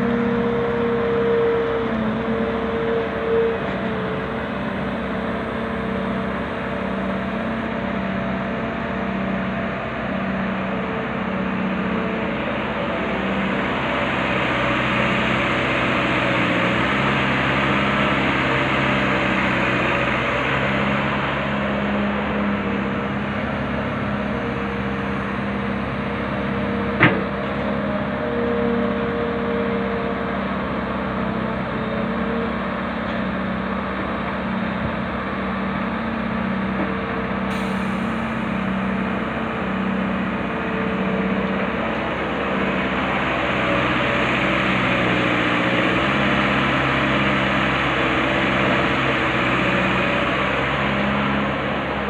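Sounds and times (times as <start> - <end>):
excavator diesel engine under load: 0.0 - 52.0.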